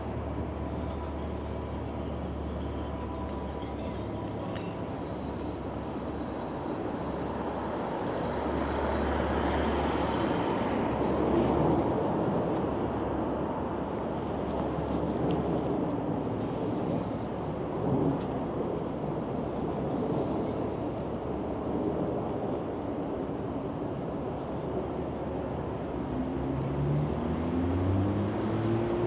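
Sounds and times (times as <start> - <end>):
street traffic passing: 0.0 - 29.0.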